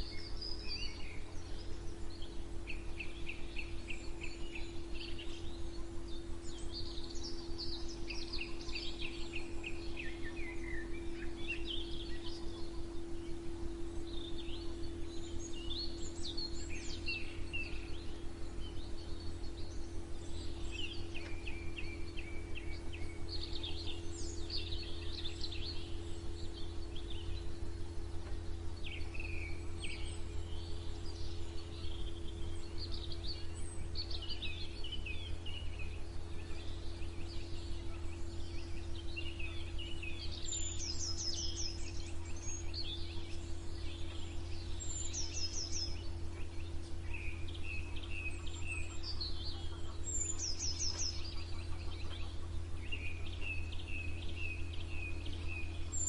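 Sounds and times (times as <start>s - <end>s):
high bird trills: 0.0s - 56.0s
songbirds singing and chirping: 0.0s - 56.0s
steady low hum: 0.0s - 56.0s.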